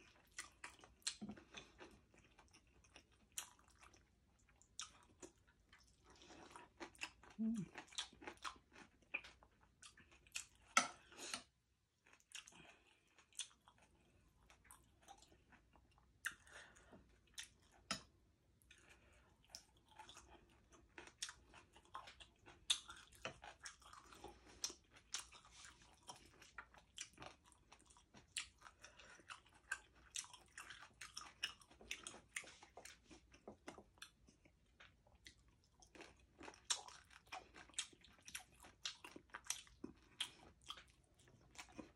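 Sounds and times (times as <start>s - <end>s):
food crunching: 0.0s - 16.6s, 18.7s - 41.9s
person chewing wetly: 0.0s - 41.9s.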